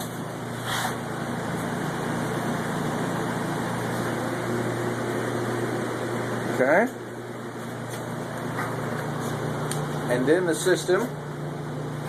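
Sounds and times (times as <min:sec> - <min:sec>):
furnace mechanical hum: 0:00.0 - 0:12.0.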